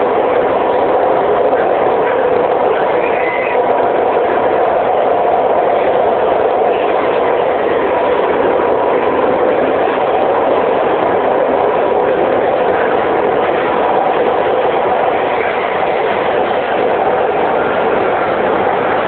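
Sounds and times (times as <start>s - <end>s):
subway train wheels running: 0.0s - 19.0s.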